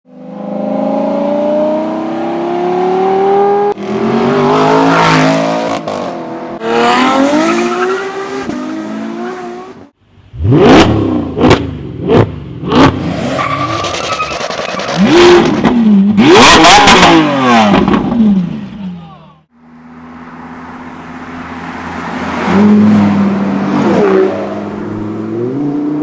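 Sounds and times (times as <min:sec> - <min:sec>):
car engines accelerating hard: 0:00.1 - 0:18.8, 0:19.8 - 0:26.0.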